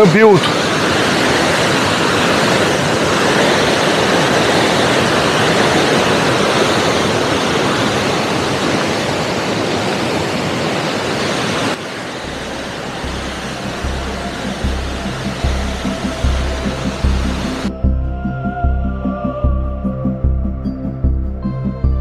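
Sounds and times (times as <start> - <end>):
turbulent river rushing: 0.0 - 17.7.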